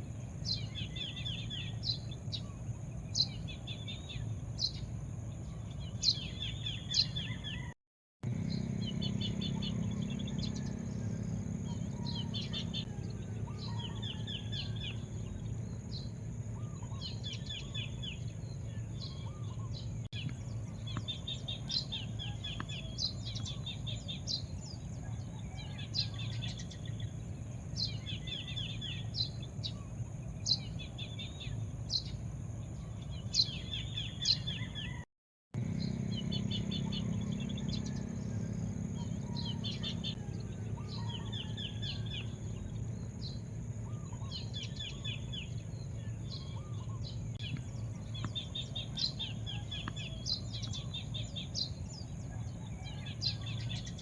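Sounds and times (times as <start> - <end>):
low background rumble: 0.0 - 34.9, 35.6 - 54.0
birds chirping and trilling: 0.0 - 54.0.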